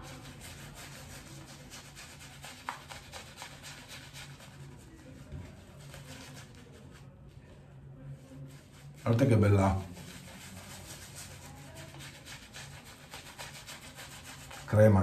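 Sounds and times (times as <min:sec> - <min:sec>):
shaving brush swirling lather: 0:00.0 - 0:07.3, 0:08.1 - 0:15.0.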